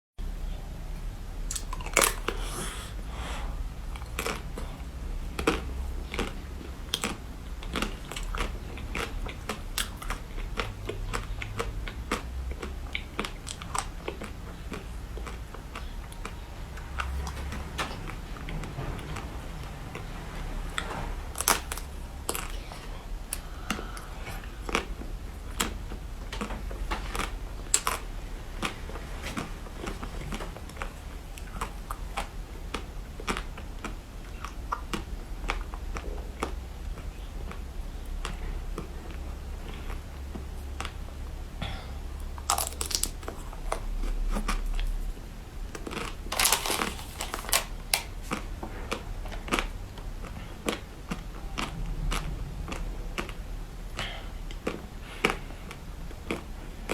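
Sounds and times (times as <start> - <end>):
chewing with crunches: 1.4 - 56.9.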